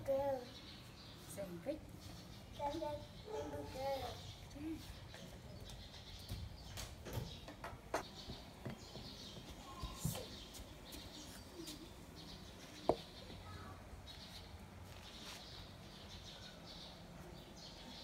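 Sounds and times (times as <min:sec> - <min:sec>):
faint bird chirping: 0:00.0 - 0:18.0.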